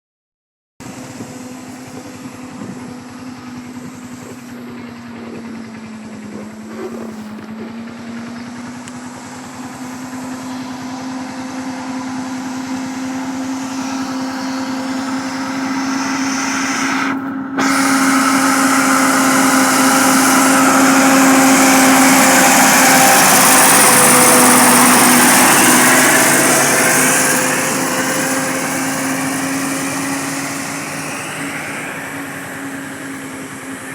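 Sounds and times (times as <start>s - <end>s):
vehicle engine humming: 0.8s - 33.9s.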